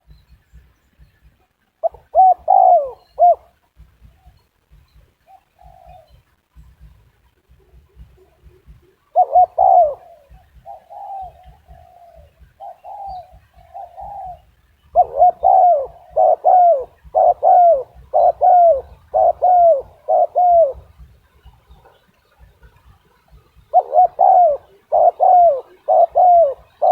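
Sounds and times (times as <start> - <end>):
dove cooing: 1.8 - 26.9.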